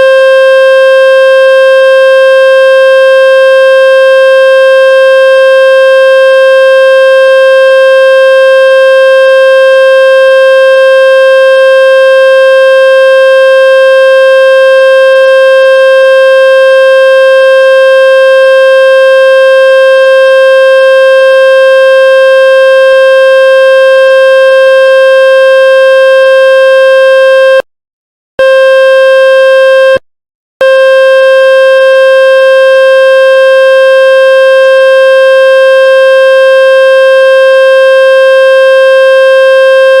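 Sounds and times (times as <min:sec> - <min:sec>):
buzzing electronic tone: 0:00.0 - 0:27.6, 0:28.4 - 0:30.0, 0:30.6 - 0:36.4.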